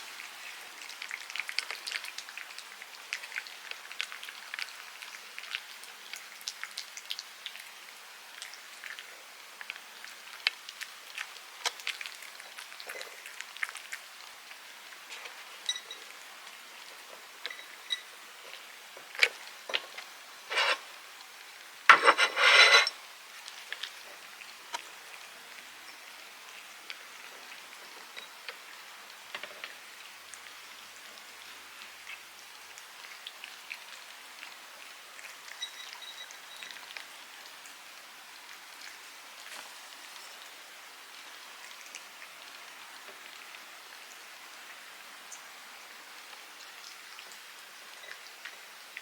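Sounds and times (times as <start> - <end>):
cats chewing and licking: 0.0 - 21.4, 23.3 - 45.0.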